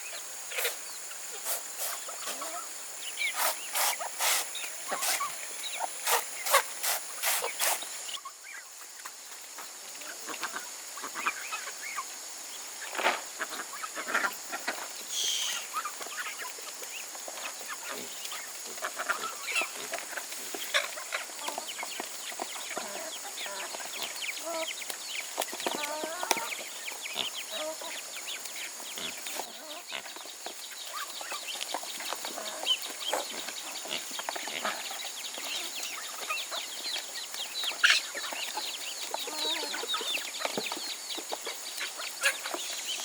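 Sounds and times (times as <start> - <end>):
chickens clucking: 0.0 - 12.2, 12.8 - 43.0.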